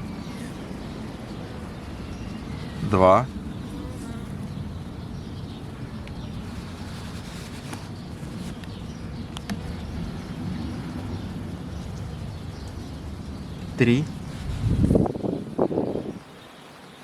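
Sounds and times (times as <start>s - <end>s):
wind rumbling on microphone: 0.0s - 16.5s
honeybees buzzing: 0.0s - 17.0s.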